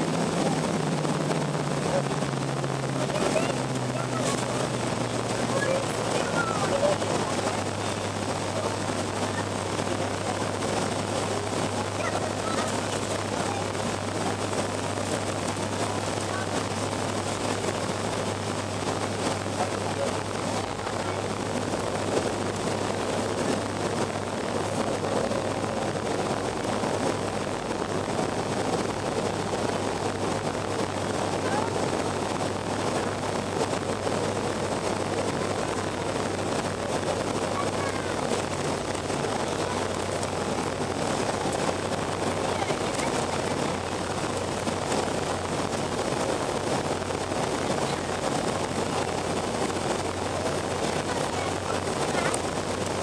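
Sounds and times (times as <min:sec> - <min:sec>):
low engine hum: 0:00.0 - 0:53.0
rush of air: 0:00.0 - 0:53.0.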